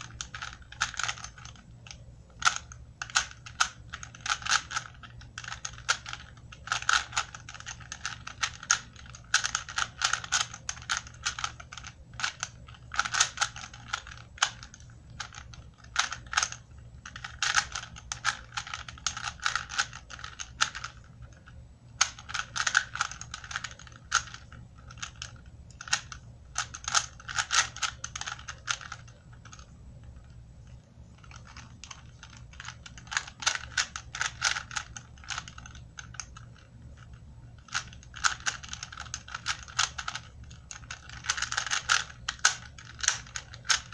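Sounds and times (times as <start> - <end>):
puzzle cube clicking: 0.0 - 43.9.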